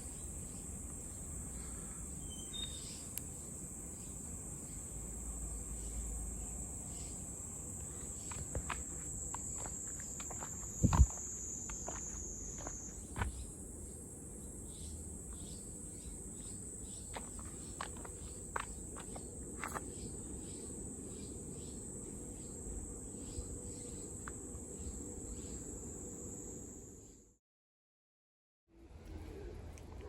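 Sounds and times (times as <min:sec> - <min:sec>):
high-pitched insect chorus: 0:00.0 - 0:27.3.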